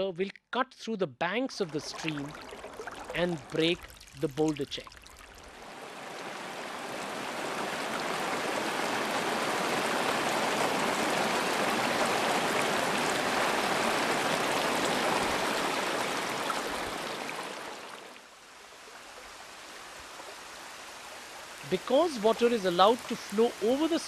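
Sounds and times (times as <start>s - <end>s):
stream water rushing over boulders: 1.7s - 24.0s.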